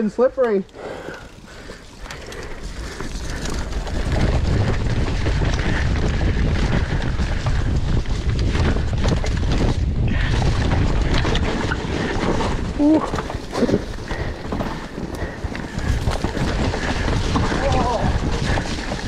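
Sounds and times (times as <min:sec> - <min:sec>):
bike chain and frame rattling: 0:00.0 - 0:19.0
tyres on dirt: 0:00.0 - 0:19.0
wind buffeting microphone: 0:00.8 - 0:19.0.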